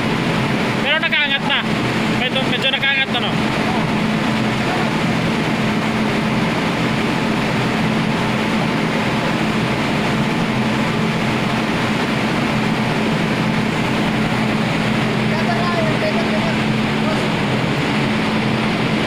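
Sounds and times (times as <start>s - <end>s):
low machinery hum: 0.0s - 19.0s
wind and sea rushing: 0.0s - 19.0s.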